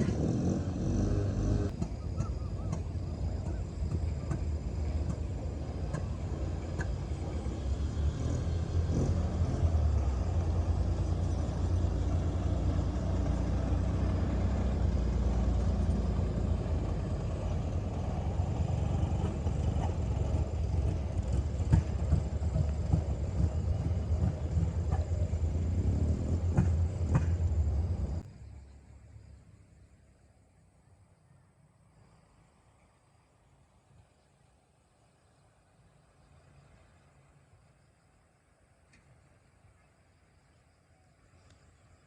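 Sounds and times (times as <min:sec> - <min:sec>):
engine rumbling: 0:00.0 - 0:42.0.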